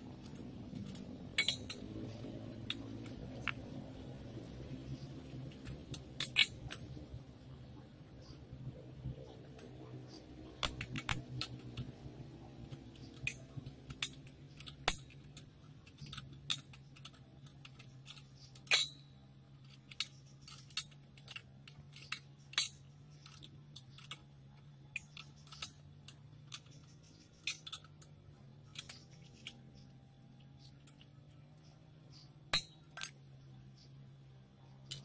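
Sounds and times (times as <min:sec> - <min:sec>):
steady low hum: 0:00.0 - 0:35.0
metal frame clicking and clinking: 0:00.1 - 0:04.0, 0:04.9 - 0:07.2, 0:09.5 - 0:35.0.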